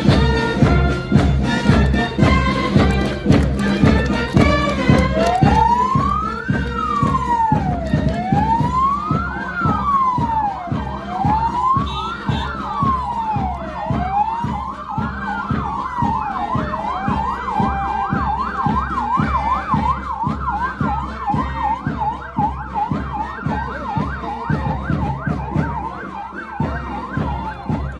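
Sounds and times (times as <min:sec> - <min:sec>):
police siren wailing and yelping: 0:00.0 - 0:27.9.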